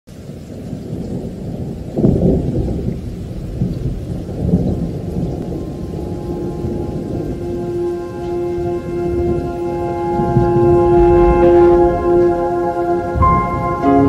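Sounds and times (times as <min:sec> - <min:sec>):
rain: 0:00.1 - 0:14.0
thunder rumbling: 0:00.1 - 0:14.0.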